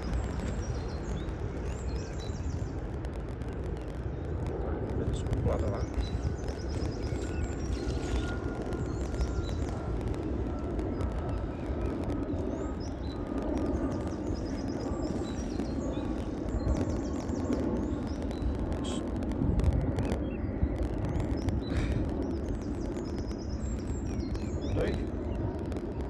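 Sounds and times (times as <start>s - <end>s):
low rumbling background: 0.0s - 26.0s
songbirds chirping and trilling: 0.0s - 26.0s.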